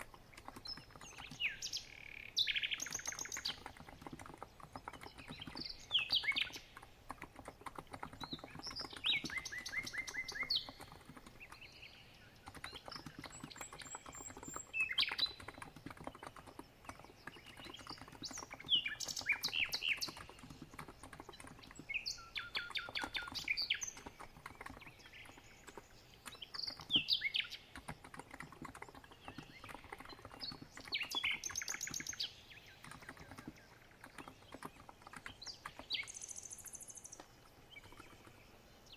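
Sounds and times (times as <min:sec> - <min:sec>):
soft keyboard typing: 0:00.0 - 0:38.6
birds chirping and trilling: 0:00.0 - 0:38.9.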